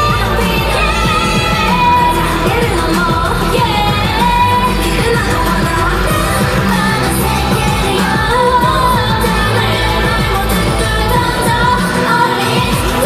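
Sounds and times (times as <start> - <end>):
dance-pop song with vocals: 0.0 - 13.0.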